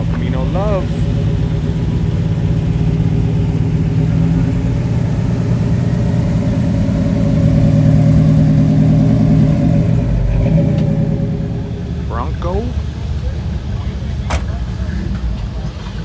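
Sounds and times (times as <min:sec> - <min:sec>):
car engine passing slowly: 0:00.0 - 0:16.0.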